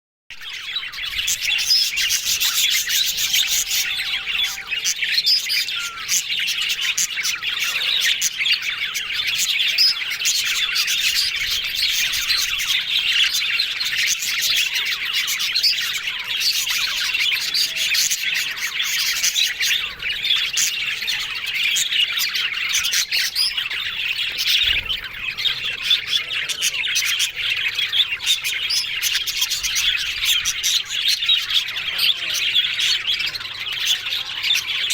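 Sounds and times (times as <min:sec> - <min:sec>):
budgerigars chattering and chirping: 0:00.4 - 0:34.9.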